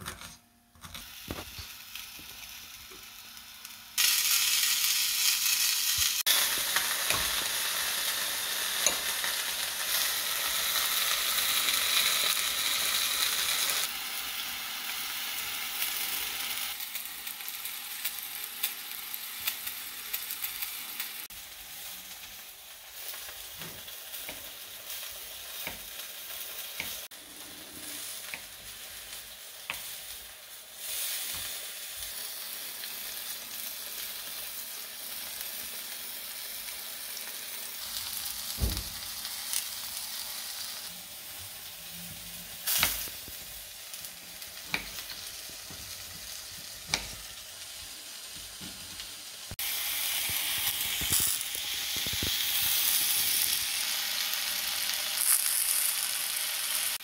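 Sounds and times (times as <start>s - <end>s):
mushrooms sizzling in a skillet: 1.0s - 57.0s.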